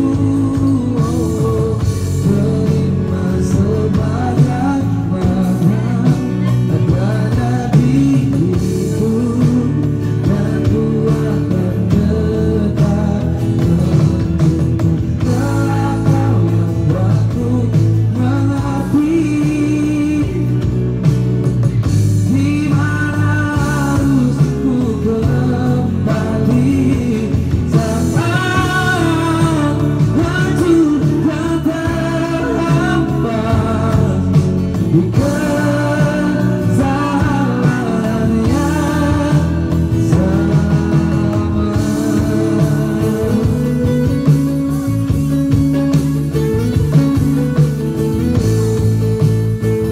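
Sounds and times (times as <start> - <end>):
person singing: 0.0 - 21.0, 22.2 - 45.4.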